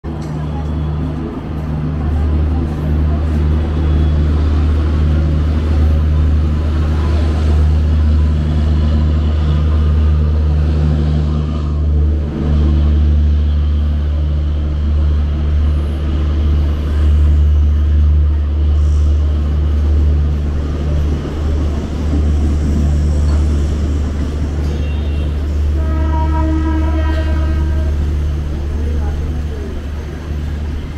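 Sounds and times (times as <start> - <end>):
train passing on rails: 0.0 - 30.9.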